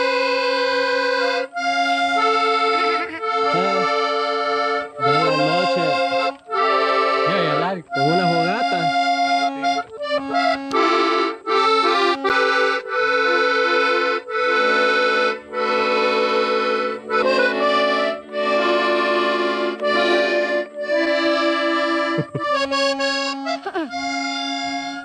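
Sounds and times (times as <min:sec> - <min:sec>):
accordion folk melody: 0:00.0 - 0:25.0.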